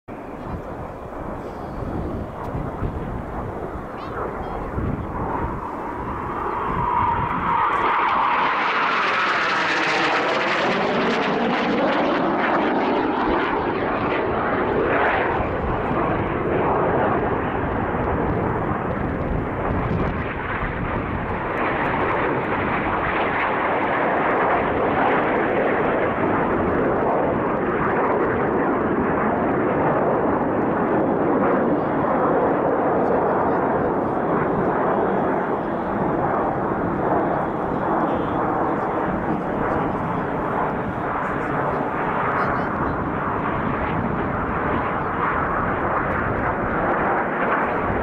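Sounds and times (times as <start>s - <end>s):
jets roaring overhead: 0.1s - 48.0s.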